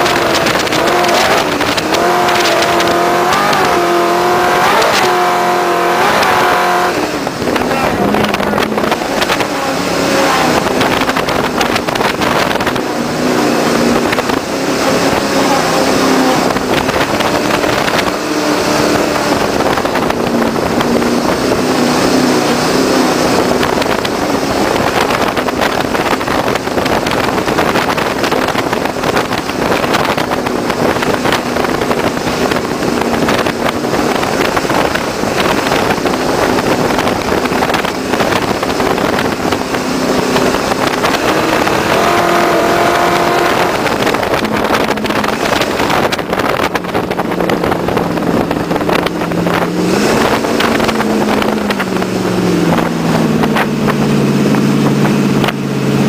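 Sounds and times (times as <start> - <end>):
boat engine running at speed: 0.0 - 56.0
rushing noise: 0.0 - 56.0.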